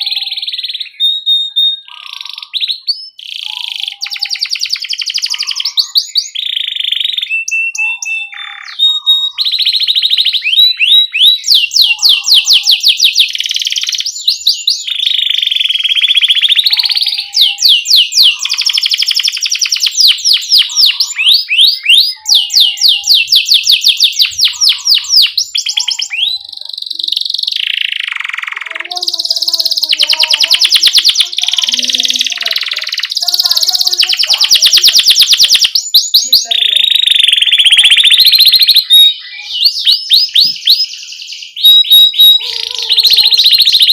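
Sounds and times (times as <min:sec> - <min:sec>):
canary singing: 0:00.0 - 0:43.9.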